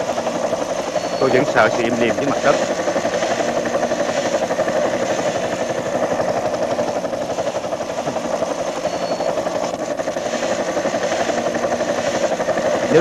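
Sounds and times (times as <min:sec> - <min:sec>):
helicopter engine drone: 0:00.0 - 0:13.0
helicopter rotor chopping: 0:00.0 - 0:13.0.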